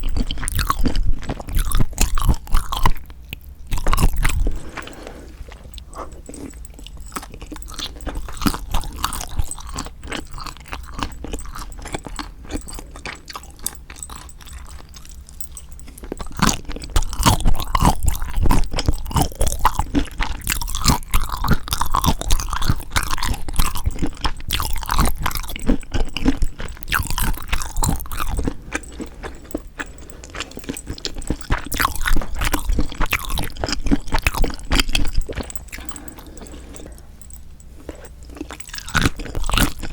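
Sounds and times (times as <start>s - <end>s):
wet crunchy chewing: 0.0s - 39.9s.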